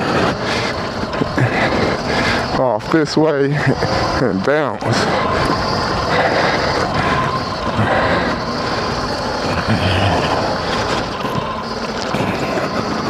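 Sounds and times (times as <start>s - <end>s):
dirt bike riding noise: 0.0s - 13.0s
steady whine: 0.0s - 13.0s.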